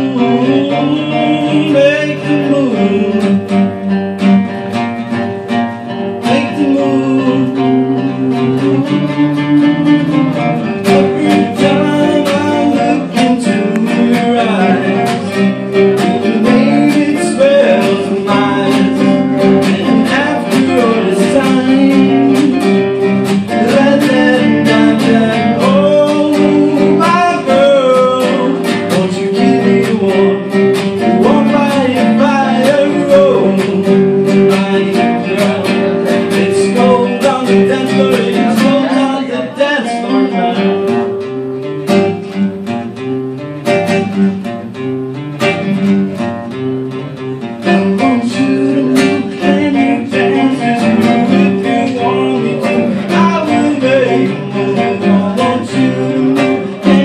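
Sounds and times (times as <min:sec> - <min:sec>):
man singing: 0:00.0 - 0:41.7, 0:47.0 - 0:57.0
acoustic guitars strummed and picked: 0:00.0 - 0:57.0.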